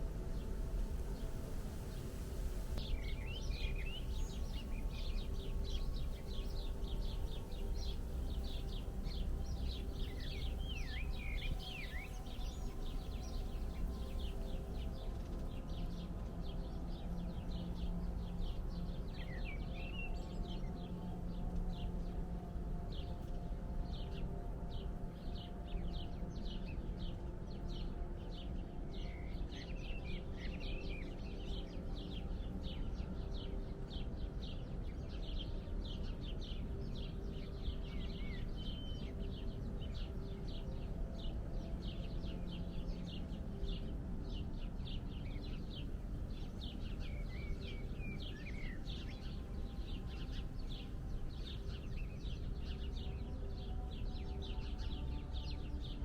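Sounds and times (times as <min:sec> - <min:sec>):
birds chirping: 0:00.0 - 0:20.4, 0:24.0 - 0:56.0.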